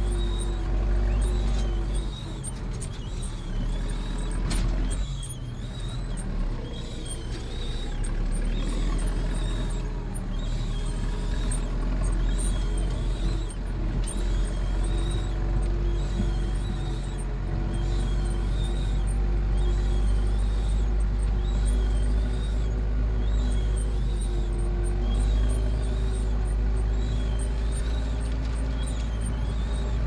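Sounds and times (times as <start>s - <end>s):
faint high squeak: 0.0s - 30.0s
tractor diesel engine running: 0.0s - 30.0s.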